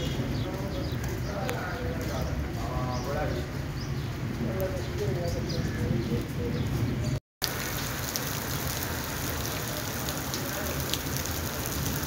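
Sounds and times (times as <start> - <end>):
rain on wet paving: 0.0 - 12.0.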